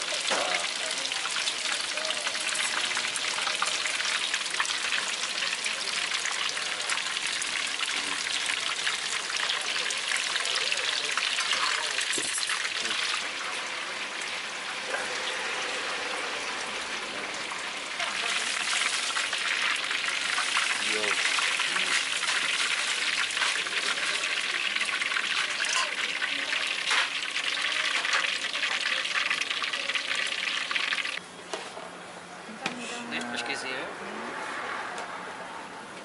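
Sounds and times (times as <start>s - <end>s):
deep-frying crackle and sizzle: 0.0s - 31.2s.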